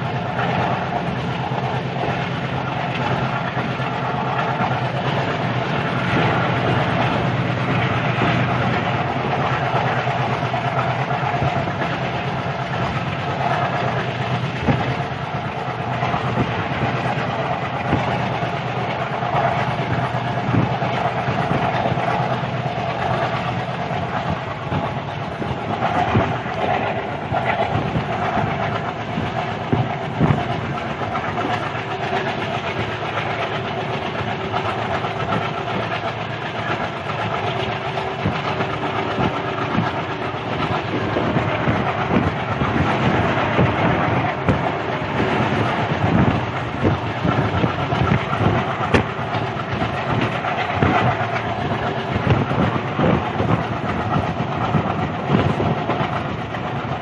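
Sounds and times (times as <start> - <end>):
train running: 0.0 - 57.0.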